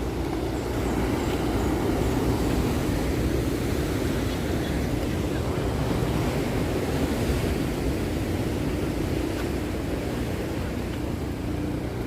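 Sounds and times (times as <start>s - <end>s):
ocean surf breaking: 0.0s - 12.0s
wind on microphone: 0.0s - 12.0s.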